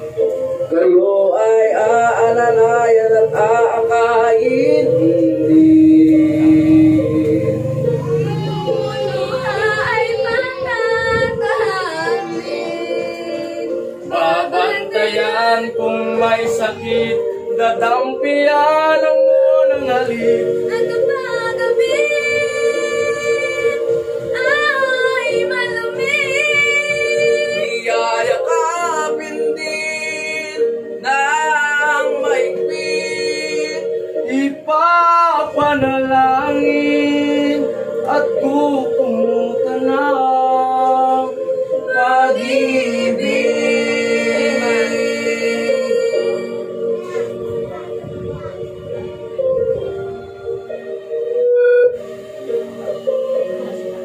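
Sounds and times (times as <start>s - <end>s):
people singing into microphones: 0.0s - 54.0s
steady held background note: 0.0s - 54.0s.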